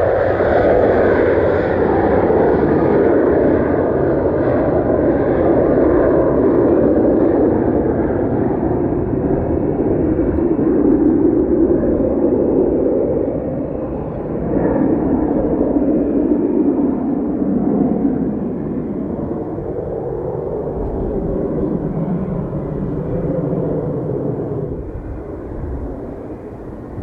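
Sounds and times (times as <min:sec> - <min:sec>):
airplane engine roar: 0:00.0 - 0:27.0.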